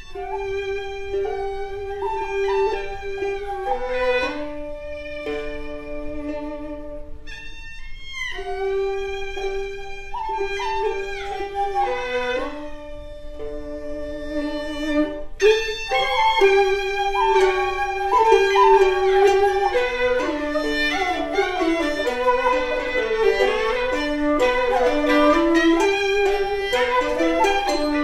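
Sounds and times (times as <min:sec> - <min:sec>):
bowed fiddles playing melody: 0:00.0 - 0:28.0.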